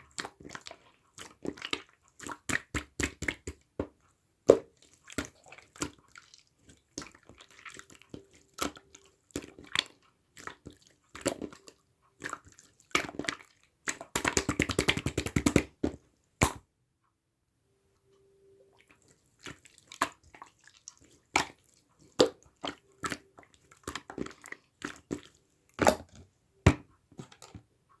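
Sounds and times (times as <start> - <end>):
slime squishing with sticky pops: 0.0 - 16.6, 18.9 - 28.0.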